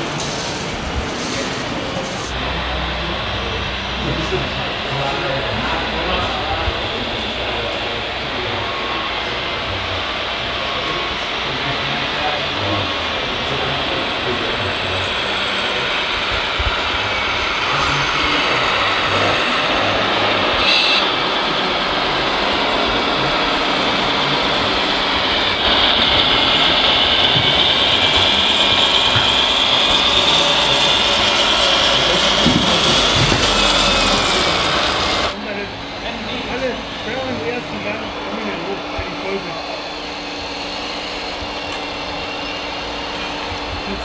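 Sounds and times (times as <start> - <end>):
model trucks running with whine: 0.0 - 44.0.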